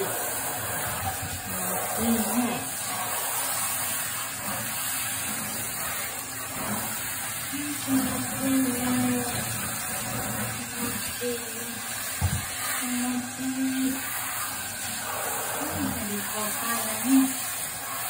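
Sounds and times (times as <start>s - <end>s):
shower spraying water on fur: 0.0s - 18.0s.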